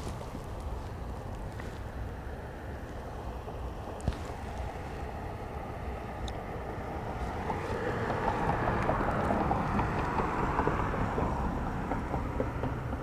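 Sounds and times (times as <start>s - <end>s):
vehicle passing: 0.0s - 13.0s
wind buffeting microphone: 0.0s - 13.0s.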